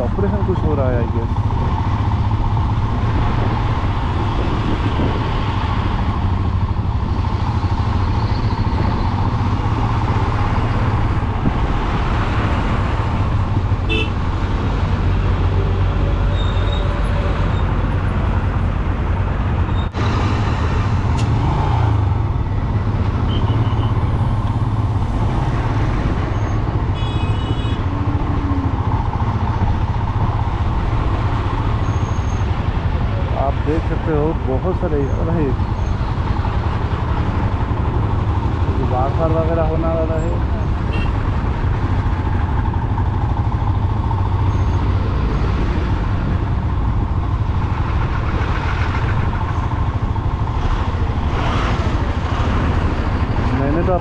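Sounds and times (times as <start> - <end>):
traffic noise: 0.0 - 54.0.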